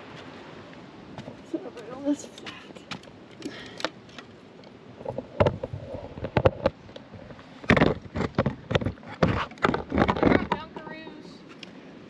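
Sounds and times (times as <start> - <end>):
rustles and bumps: 1.1 - 11.1.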